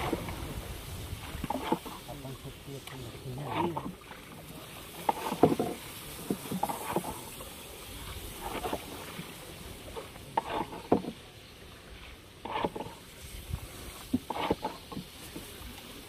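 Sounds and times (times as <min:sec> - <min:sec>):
low steady water wash: 0:00.0 - 0:16.0
paddle splashes and knocks: 0:00.0 - 0:16.0.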